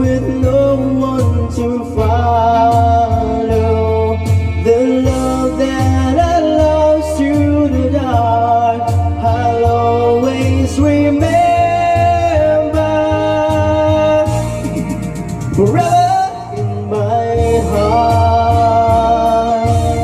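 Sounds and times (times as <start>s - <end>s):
karaoke ballad backing track: 0.0s - 20.0s.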